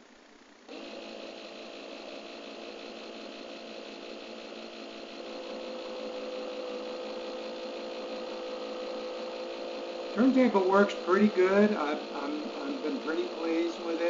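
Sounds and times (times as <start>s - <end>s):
turntable motor whine: 0.0s - 14.0s.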